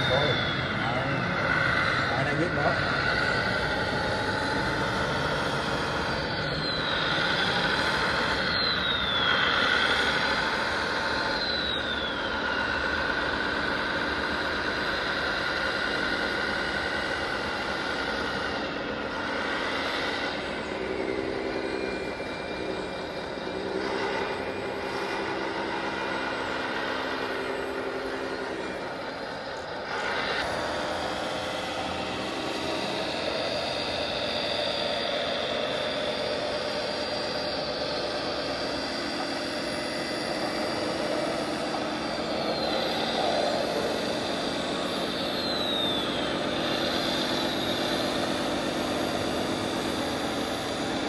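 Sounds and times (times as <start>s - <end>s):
whine of small motors: 0.0s - 51.0s.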